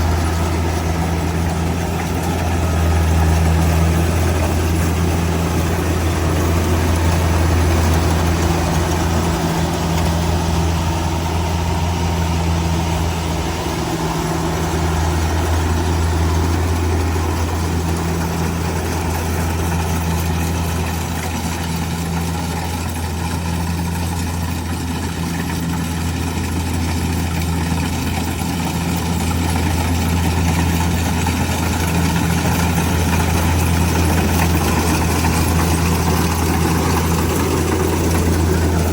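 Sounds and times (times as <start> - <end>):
combine harvester diesel engine: 0.0 - 38.9.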